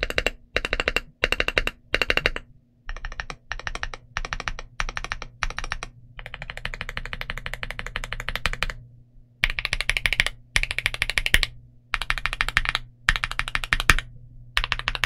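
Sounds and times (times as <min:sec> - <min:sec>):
mechanical keyboard typing: 0:00.0 - 0:08.8, 0:09.4 - 0:15.0.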